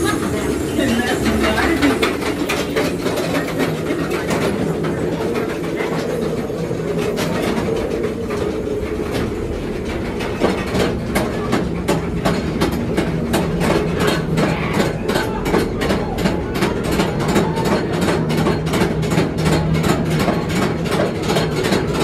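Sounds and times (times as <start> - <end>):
train cars rumbling on track: 0.0 - 22.0.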